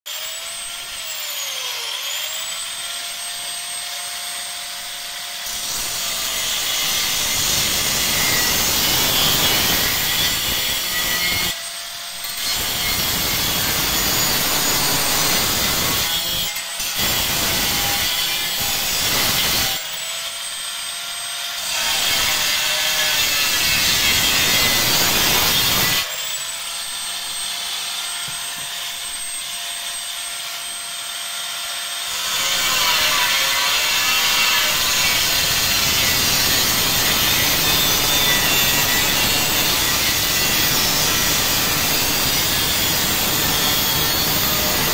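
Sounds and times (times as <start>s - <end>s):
grinder cutting into metal: 0.1s - 44.9s.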